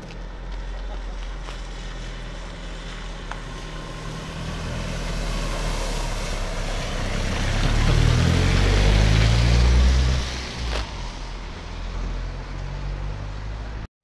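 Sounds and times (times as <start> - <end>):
car engine hum: 0.0 - 13.9
car splashing past: 0.4 - 13.8
tyres hissing through water: 1.2 - 12.8.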